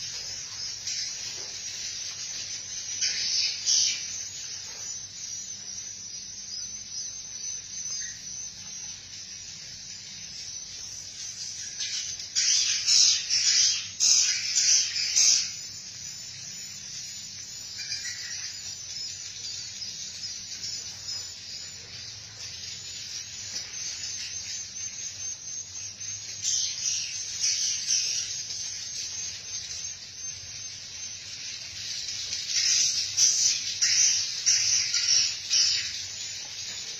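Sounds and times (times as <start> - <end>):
swiftlets twittering: 0.0 - 36.9.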